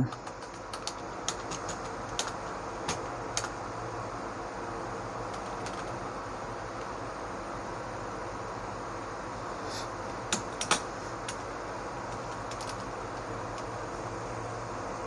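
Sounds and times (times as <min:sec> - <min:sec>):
computer fan hum: 0:00.0 - 0:15.0.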